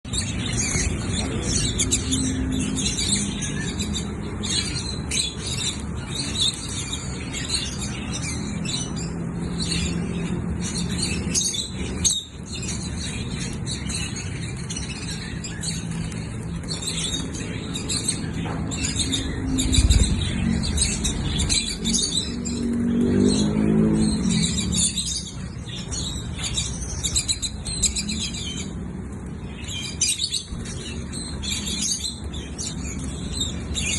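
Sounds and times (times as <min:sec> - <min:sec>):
lovebird chirping and squeaking: 0:00.1 - 0:28.8.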